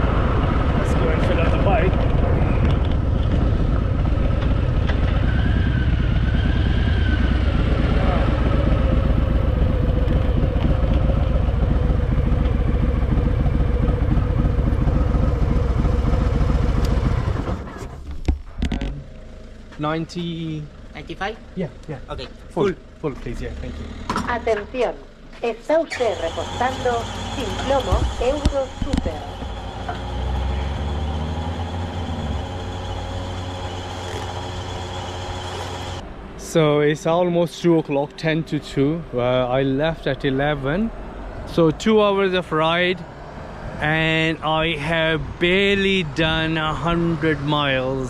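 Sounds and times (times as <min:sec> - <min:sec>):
motorcycle engine rumbling: 0:00.0 - 0:48.0.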